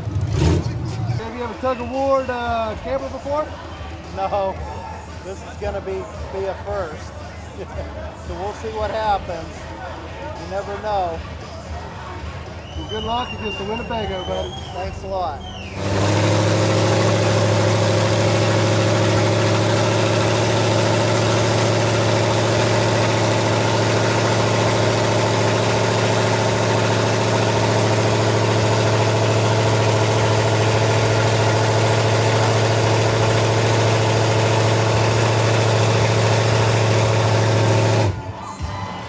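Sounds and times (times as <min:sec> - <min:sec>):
vehicle engine running steadily: 0:00.0 - 0:38.7.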